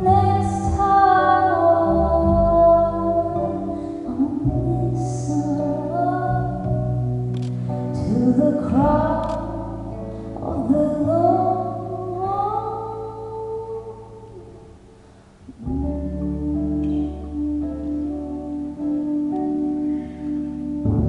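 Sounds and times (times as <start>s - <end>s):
woman singing: 0.0s - 7.0s, 7.9s - 14.7s, 15.6s - 20.8s
guitar accompaniment: 0.0s - 21.0s.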